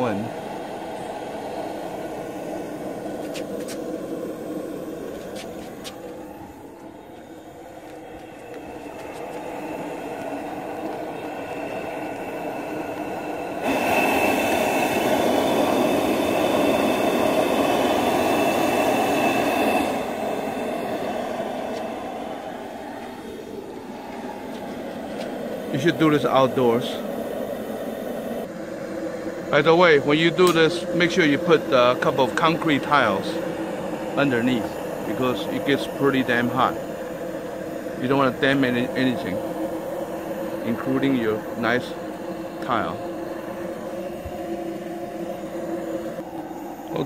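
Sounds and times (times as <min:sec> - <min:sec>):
gas burner flame roar: 0:00.0 - 0:47.0
high whistling tone: 0:00.0 - 0:47.0.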